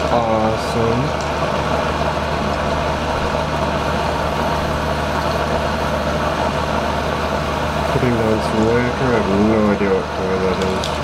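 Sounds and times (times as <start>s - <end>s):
motor droning: 0.0s - 11.0s.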